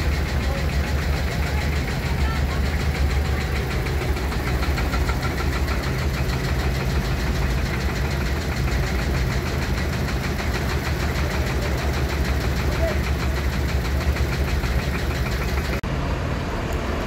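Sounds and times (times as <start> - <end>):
tractor engines idling: 0.0 - 17.0.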